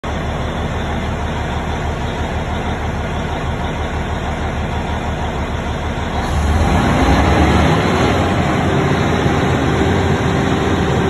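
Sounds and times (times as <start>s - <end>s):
diesel generator idling: 0.0s - 11.0s.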